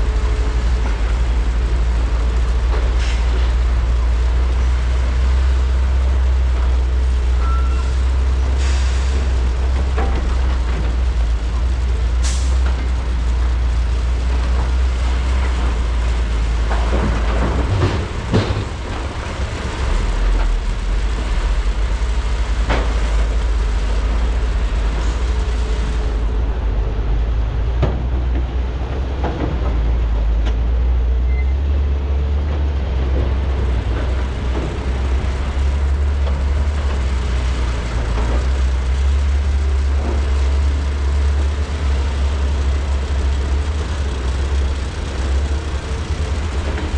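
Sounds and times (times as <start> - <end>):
excavator engine rumble: 0.0 - 46.9.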